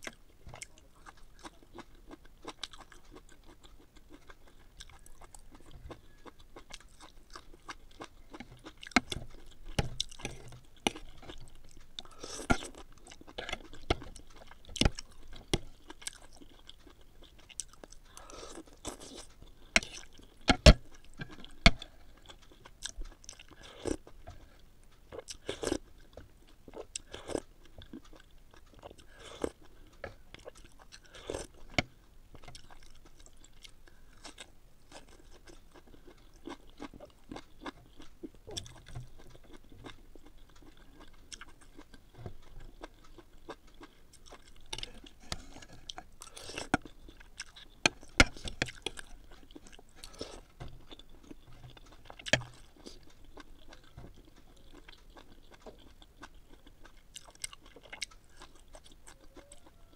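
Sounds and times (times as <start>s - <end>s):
person chewing crunchy vegetables: 0.0s - 59.9s.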